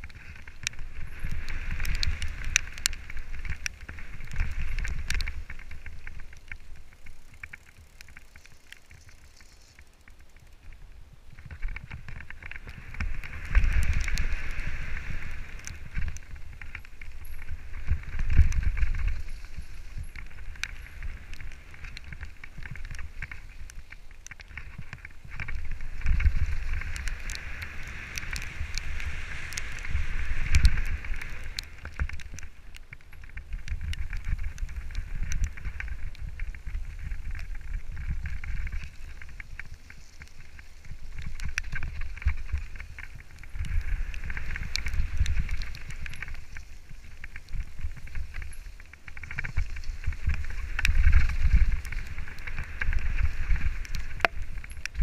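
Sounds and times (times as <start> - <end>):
bike clicks and rattles: 0.0 - 55.0
bike tyre noise: 0.0 - 55.0
wind rumble on microphone: 0.0 - 55.0.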